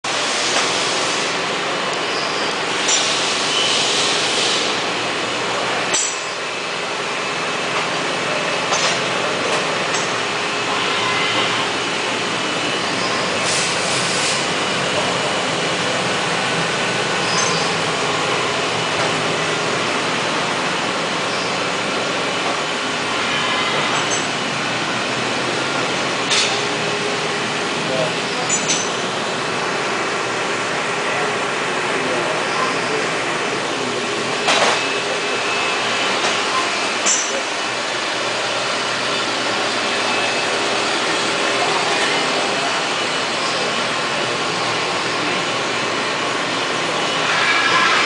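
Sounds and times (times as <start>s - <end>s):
machine whirring: 0.1s - 48.0s.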